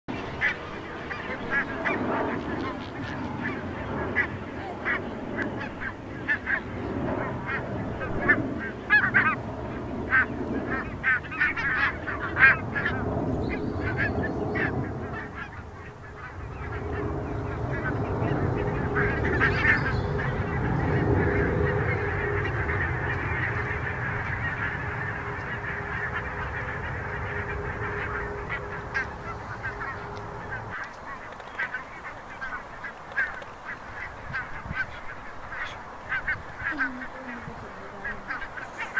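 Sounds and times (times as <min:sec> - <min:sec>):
geese honking: 0:00.1 - 0:38.9
steady low noise: 0:00.1 - 0:38.9.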